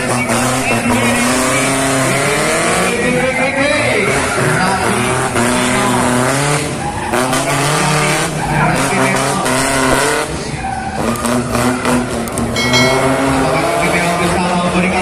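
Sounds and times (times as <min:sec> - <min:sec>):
car engine revving: 0:00.0 - 0:15.0
tyres skidding: 0:00.0 - 0:15.0.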